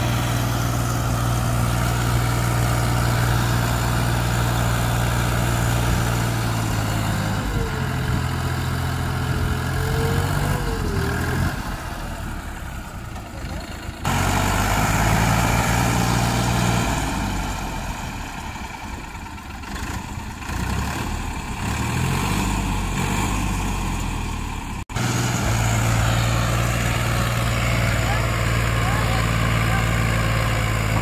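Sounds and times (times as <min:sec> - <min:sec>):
tractor diesel engine working hard: 0:00.0 - 0:31.0.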